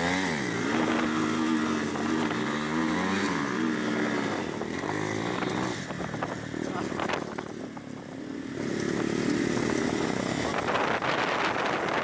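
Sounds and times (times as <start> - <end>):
motorcycle engine revving: 0.0 - 12.0
wind and road noise hiss: 0.0 - 12.0.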